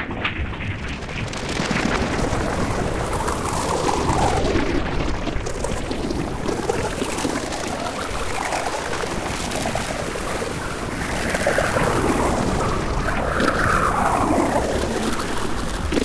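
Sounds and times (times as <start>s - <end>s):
noisy rushing wash: 0.0s - 16.0s.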